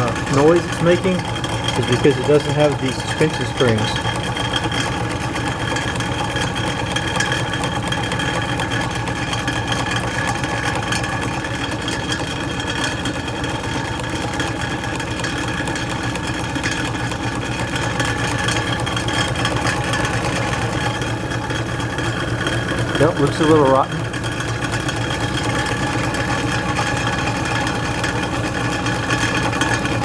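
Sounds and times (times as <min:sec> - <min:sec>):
refrigeration unit humming: 0:00.0 - 0:30.0.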